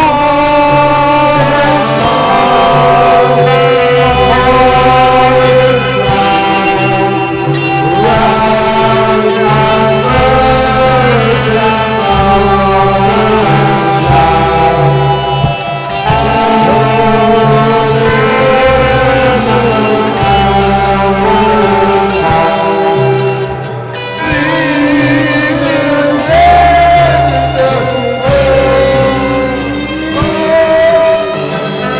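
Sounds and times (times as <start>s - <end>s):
gliding melody line: 0.0s - 31.9s
music with sustained chords: 0.0s - 31.9s
steady bass line: 0.0s - 31.9s.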